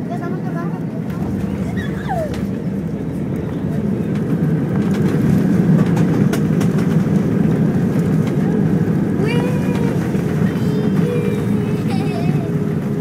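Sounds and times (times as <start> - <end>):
airliner engines and rushing air: 0.0 - 13.0.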